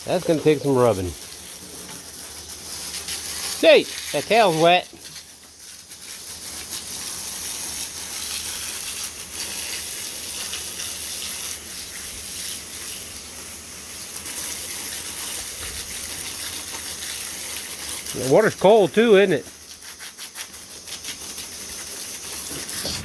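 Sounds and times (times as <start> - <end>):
garden hose spraying water: 0.0 - 23.0.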